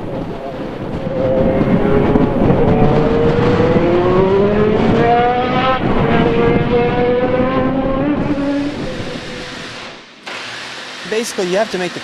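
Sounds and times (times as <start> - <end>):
racing engine at high revs: 0.9 - 12.0.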